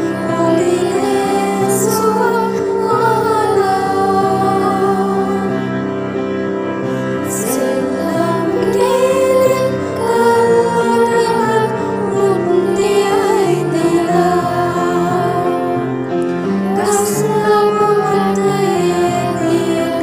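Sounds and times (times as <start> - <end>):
girls' choir singing: 0.0 - 5.8, 7.2 - 20.0
backing music: 0.0 - 20.0.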